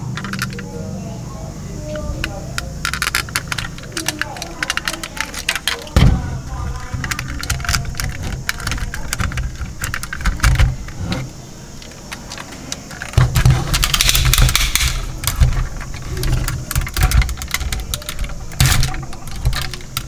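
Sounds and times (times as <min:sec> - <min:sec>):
plastic toy parts clicking and rattling: 0:00.0 - 0:00.7, 0:01.8 - 0:20.0.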